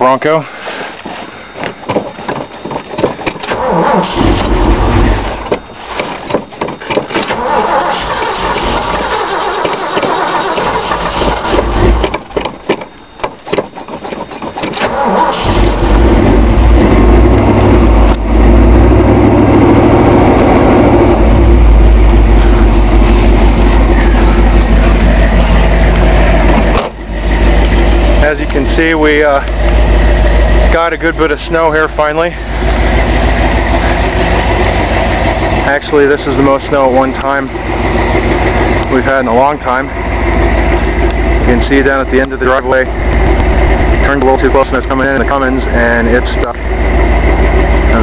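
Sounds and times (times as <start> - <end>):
car engine cranking and starting: 0.0 - 48.0.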